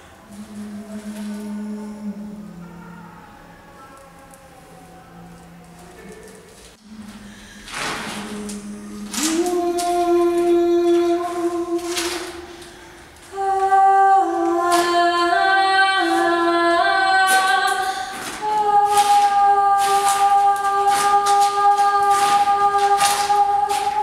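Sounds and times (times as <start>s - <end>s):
woman singing a cappella: 0.0s - 3.3s, 6.8s - 24.0s.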